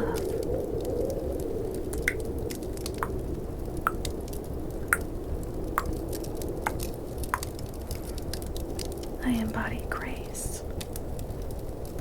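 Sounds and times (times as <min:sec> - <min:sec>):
snowstorm and fireplace ambience: 0:00.0 - 0:12.0.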